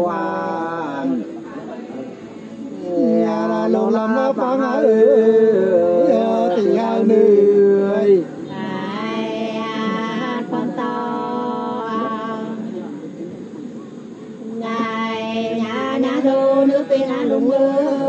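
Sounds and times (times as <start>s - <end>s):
unaccompanied folk singing: 0.0s - 18.0s.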